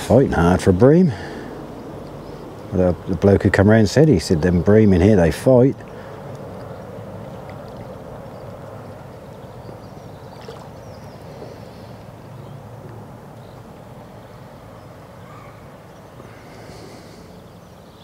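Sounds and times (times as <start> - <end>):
low outdoor background noise: 0.0 - 18.0.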